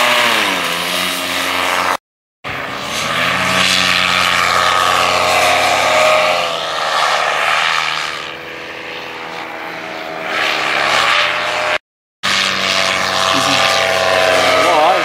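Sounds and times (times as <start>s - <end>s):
paramotor engine buzzing: 0.0s - 15.0s.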